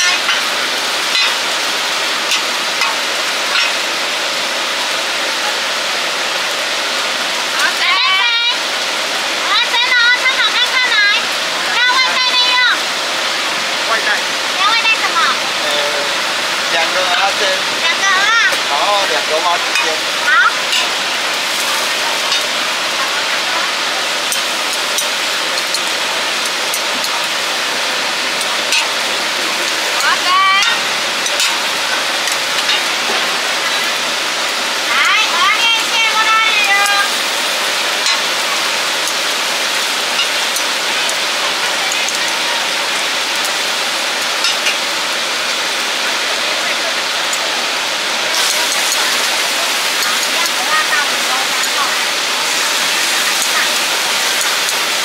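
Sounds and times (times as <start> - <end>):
food sizzling on griddle: 0.0 - 55.0.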